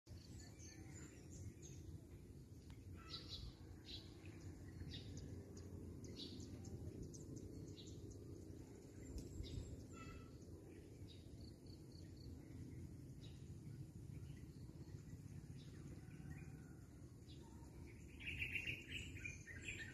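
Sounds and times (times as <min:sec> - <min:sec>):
small birds chirping: 0:00.1 - 0:16.7, 0:17.3 - 0:19.9
low background rumble: 0:00.1 - 0:19.9.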